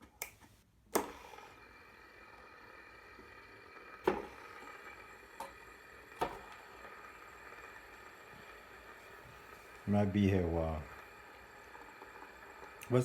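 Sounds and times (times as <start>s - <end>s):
fidget spinner whirring: 0.9s - 13.0s.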